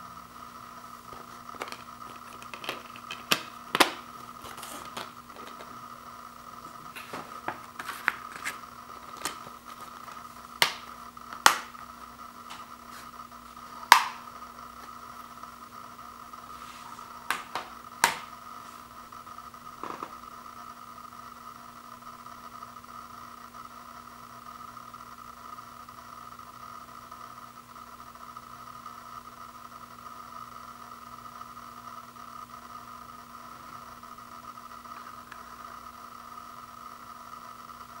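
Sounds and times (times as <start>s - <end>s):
constant high whine: 0.0s - 38.0s.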